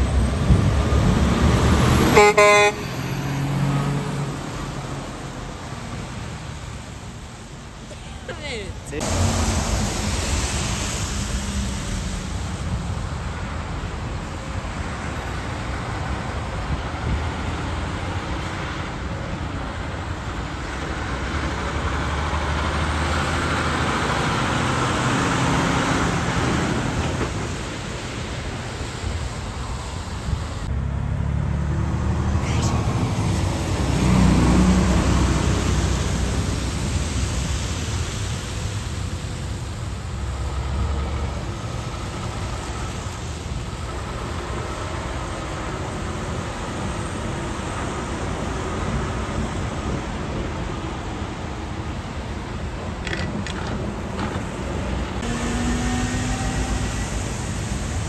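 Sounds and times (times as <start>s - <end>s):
diesel engine rumble: 0.0s - 58.0s
tyres hissing on wet road: 0.0s - 58.0s.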